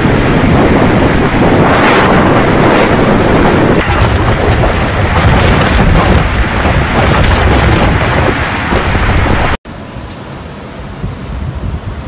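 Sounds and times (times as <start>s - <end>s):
wind gusting on microphone: 0.0s - 10.1s, 10.7s - 12.0s.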